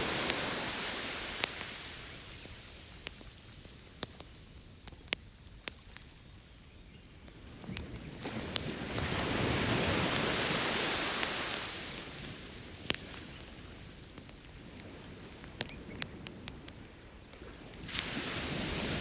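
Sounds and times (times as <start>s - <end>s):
campfire crackling: 0.0s - 19.0s
fire pops: 0.0s - 19.0s.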